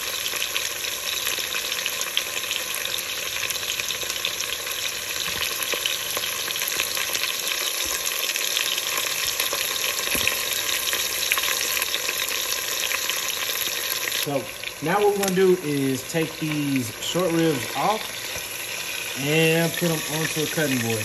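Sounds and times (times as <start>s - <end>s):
meat sizzling in hot oil: 0.0s - 21.0s.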